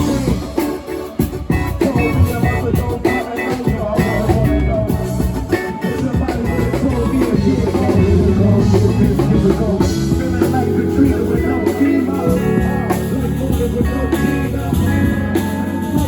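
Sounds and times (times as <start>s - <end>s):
drum kit: 0.0s - 16.0s
guitar: 0.0s - 16.0s.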